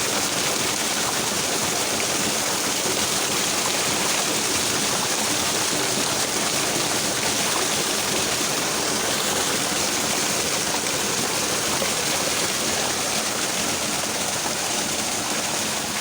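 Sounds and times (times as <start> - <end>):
river water babbling and splashing: 0.0 - 16.0.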